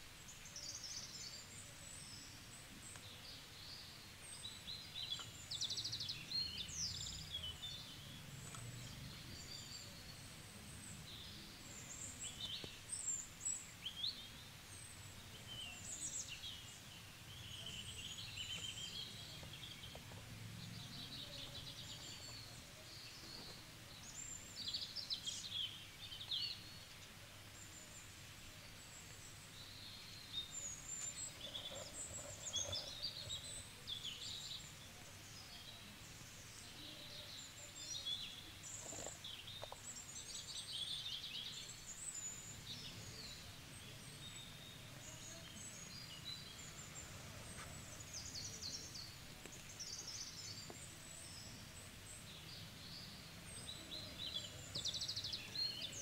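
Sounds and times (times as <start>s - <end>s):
faint background noise: 0.0s - 56.0s
small birds chirping: 0.0s - 56.0s.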